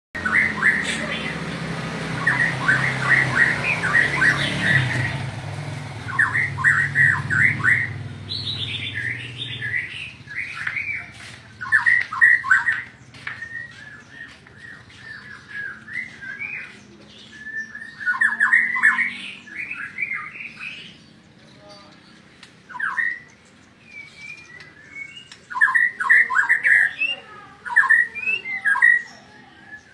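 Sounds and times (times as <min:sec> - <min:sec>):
songbird singing: 0:00.2 - 0:29.9.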